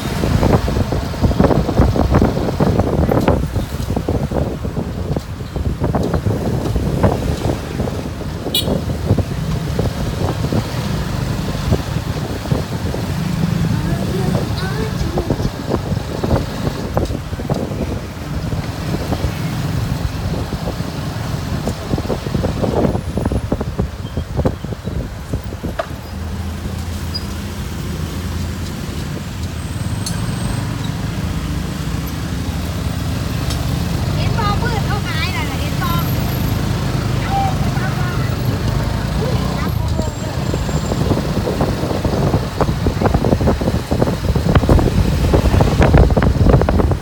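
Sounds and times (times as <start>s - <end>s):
motorbike engine and road rumble: 0.0s - 47.0s
wind buffeting microphone: 0.0s - 47.0s.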